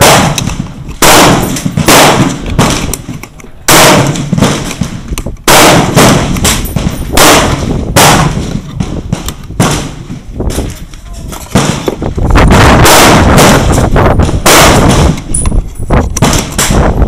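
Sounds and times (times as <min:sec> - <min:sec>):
gunshots with echo: 0:00.0 - 0:03.0, 0:03.6 - 0:10.2, 0:11.5 - 0:15.5, 0:16.2 - 0:17.0.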